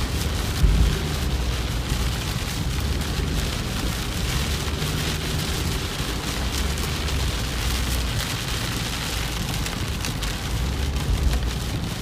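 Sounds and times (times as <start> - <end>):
engine and tyres rumbling: 0.0 - 12.0
heavy rain on car roof: 0.0 - 12.0.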